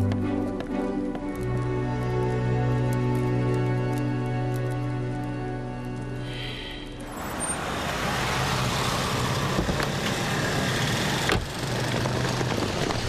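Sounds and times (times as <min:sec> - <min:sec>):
motor vehicle running: 0:00.0 - 0:13.0
street noise: 0:00.0 - 0:13.0.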